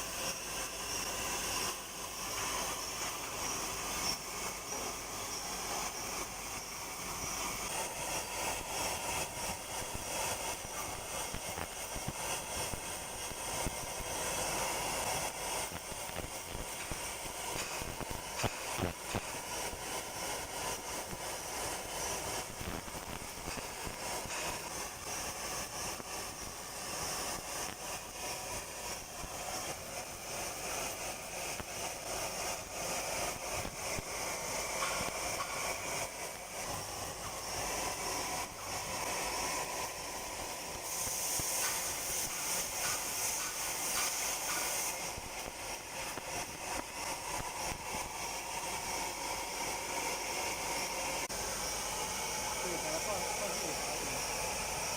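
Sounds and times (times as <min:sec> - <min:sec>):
laser machine hissing: 0:00.0 - 0:54.9.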